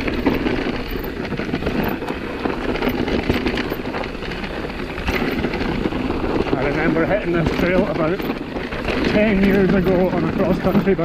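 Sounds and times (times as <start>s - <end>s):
bike rattling clicks: 0.0s - 11.0s
tyres rumbling on dirt: 0.0s - 11.0s.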